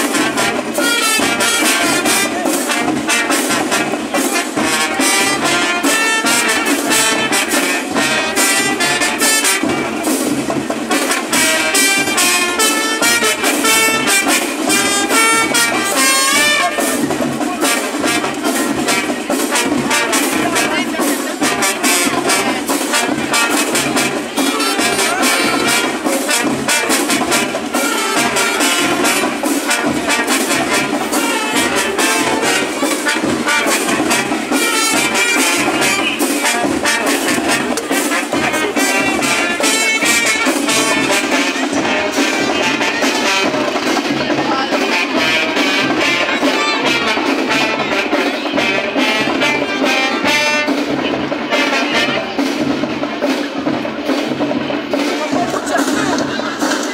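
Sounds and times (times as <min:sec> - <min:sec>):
low brass horn: 0:00.0 - 0:10.2, 0:10.9 - 0:53.3
steady drum beat: 0:00.0 - 0:56.9
trumpets and trombones: 0:00.0 - 0:56.9.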